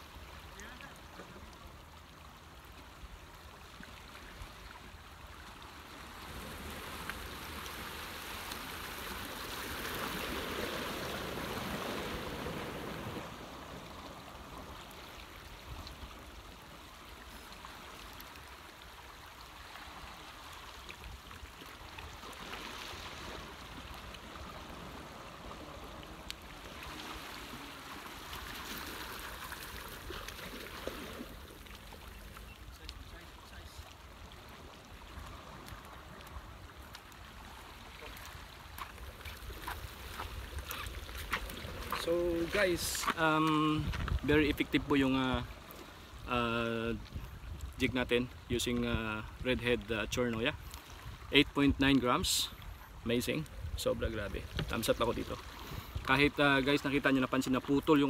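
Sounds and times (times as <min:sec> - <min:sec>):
seawater washing and trickling: 0:00.0 - 0:58.0.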